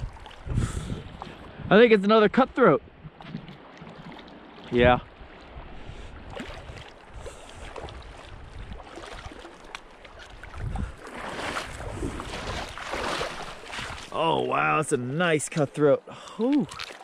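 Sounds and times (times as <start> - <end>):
fish splashing in shallow water: 0.0 - 1.6, 3.0 - 14.7, 16.2 - 17.0.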